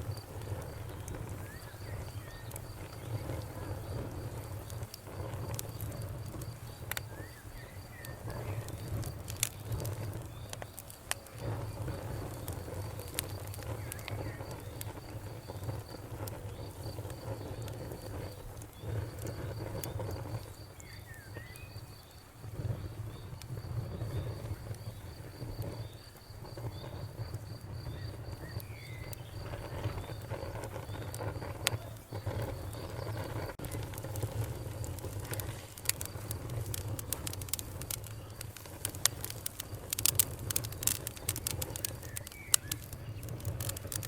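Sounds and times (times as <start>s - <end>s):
cricket chirping: 0.0s - 44.0s
wood fire crackling: 0.0s - 44.0s.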